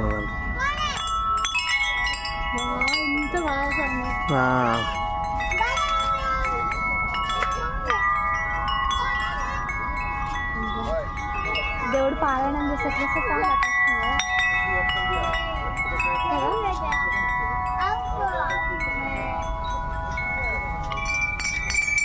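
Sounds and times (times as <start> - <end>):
hanging bells ringing: 0.0 - 22.0.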